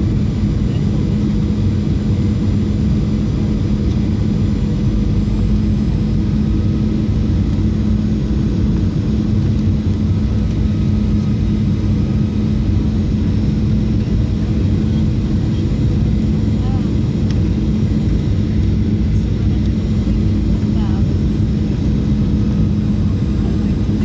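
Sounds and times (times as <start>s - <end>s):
jet engines and rushing airflow: 0.0s - 24.0s
steady low hum: 0.0s - 24.0s.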